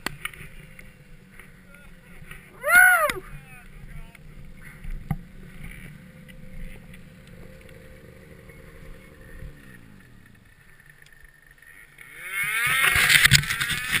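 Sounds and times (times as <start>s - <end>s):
snowmobile engine: 0.0s - 14.0s.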